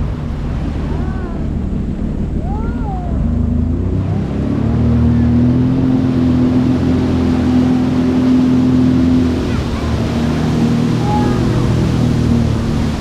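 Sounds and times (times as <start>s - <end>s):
personal watercraft engine running: 0.0s - 13.0s.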